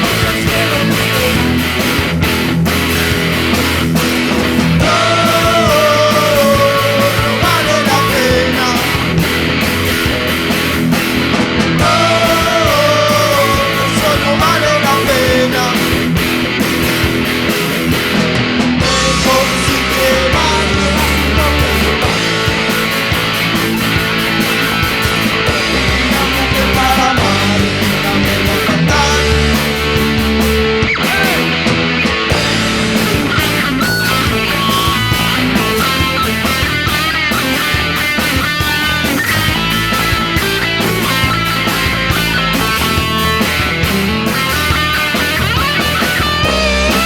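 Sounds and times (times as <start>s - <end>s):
instrumental rock music: 0.0s - 47.0s.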